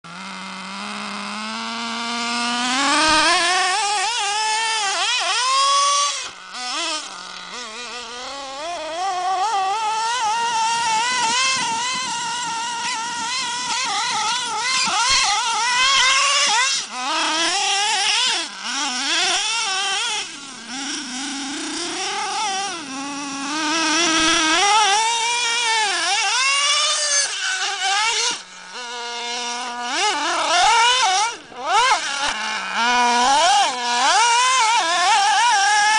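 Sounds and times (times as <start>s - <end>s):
rc car engine revving: 0.0s - 35.9s.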